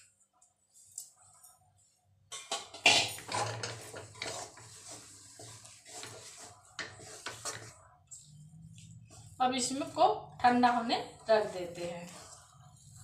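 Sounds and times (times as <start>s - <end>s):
wooden spatula scraping a pan: 2.4s - 13.0s.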